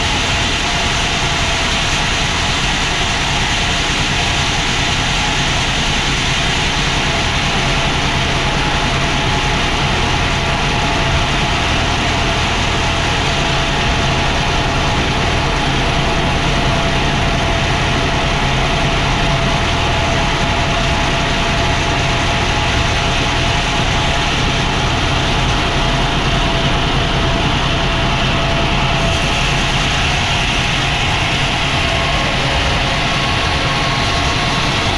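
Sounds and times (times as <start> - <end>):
sawmill machinery rumbling: 0.0 - 34.9.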